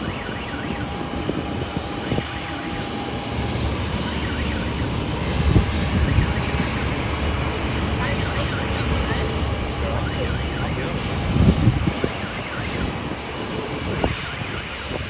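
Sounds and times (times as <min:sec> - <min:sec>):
jet engines rushing: 0:00.0 - 0:15.0
wind rumbling on microphone: 0:00.0 - 0:15.0.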